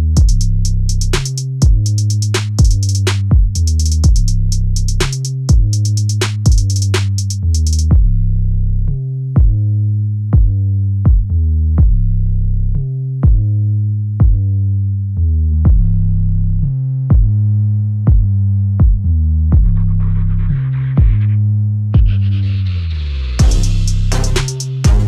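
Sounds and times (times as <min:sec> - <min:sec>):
background music with steady beat: 0:00.0 - 0:14.6, 0:15.3 - 0:25.0.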